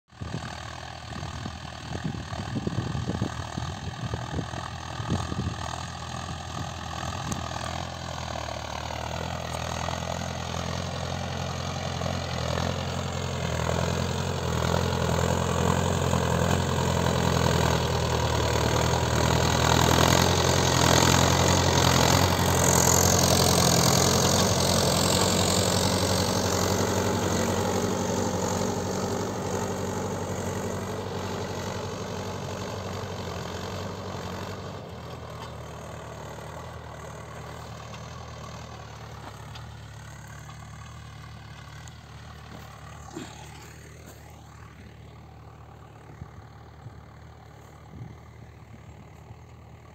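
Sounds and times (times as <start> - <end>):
tractor diesel engine running: 0.1 - 49.9.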